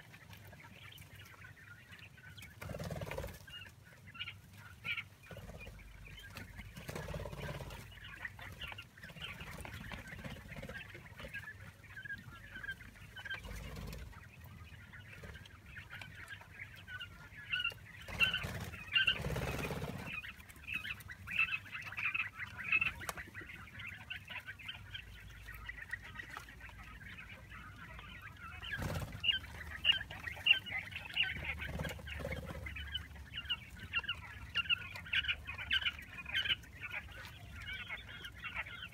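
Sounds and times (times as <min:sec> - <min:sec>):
quail chicks peeping: 0:00.0 - 0:38.9.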